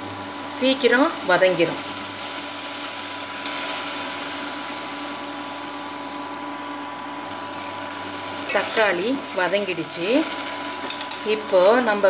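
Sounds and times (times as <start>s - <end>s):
induction cooktop hum: 0.0s - 12.0s
vegetables sizzling in oil: 0.0s - 12.0s.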